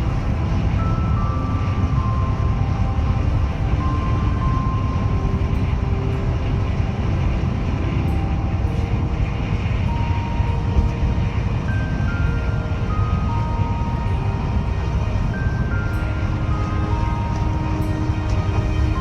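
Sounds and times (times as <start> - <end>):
slow soft music notes: 0.0 - 19.0
vehicle rumble: 0.0 - 19.0.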